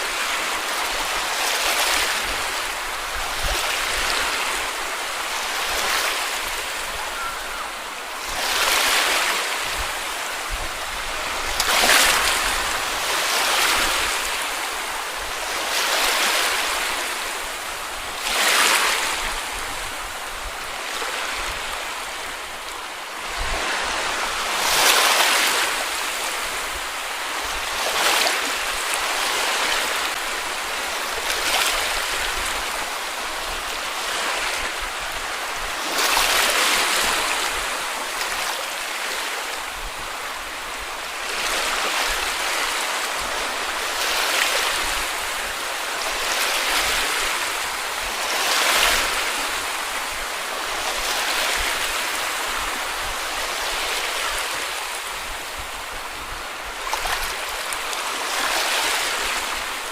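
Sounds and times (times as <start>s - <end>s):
small waves washing up beach: 0.0s - 59.9s.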